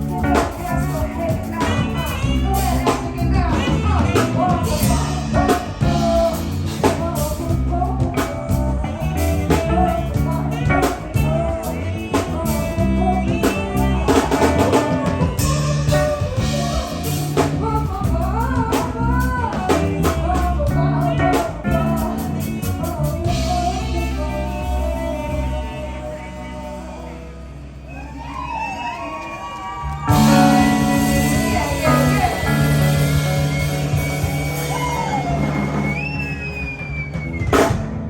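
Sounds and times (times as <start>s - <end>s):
drum kit: 0.0s - 28.5s, 29.8s - 38.0s
person singing: 0.0s - 36.7s
bass guitar: 0.0s - 38.0s
electric guitar: 0.0s - 38.0s.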